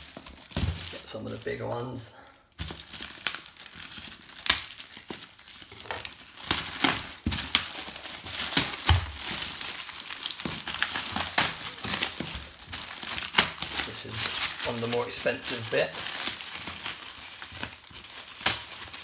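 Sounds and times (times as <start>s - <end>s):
plastic bag crinkling and tearing: 0.0s - 19.0s.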